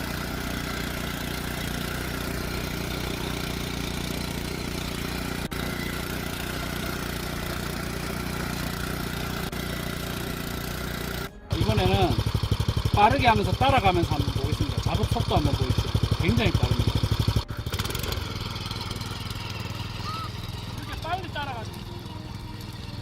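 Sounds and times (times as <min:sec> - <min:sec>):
cultivator engine running: 0:00.0 - 0:23.0.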